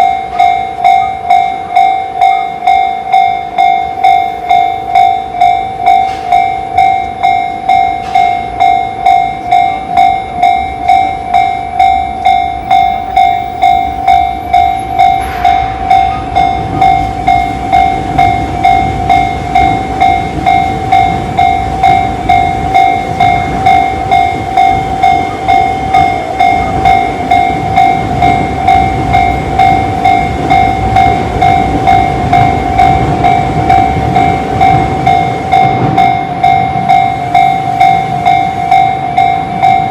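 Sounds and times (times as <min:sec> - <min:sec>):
level crossing warning bell: 0:00.0 - 0:39.9
train rumbling: 0:00.0 - 0:39.9.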